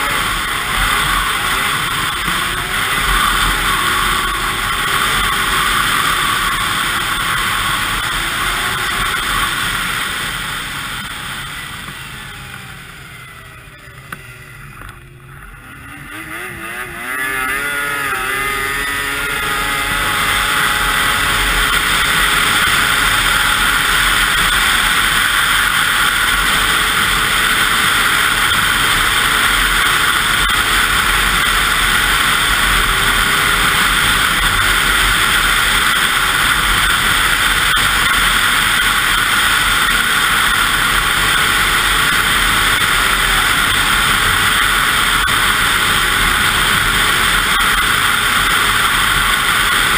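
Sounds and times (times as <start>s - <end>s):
snowmobile engine running: 0.0s - 49.9s.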